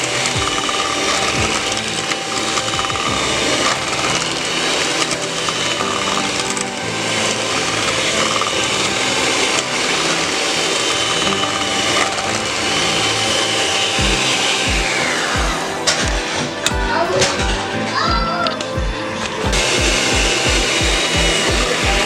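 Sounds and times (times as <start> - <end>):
electric hand mixer running: 0.0 - 22.0.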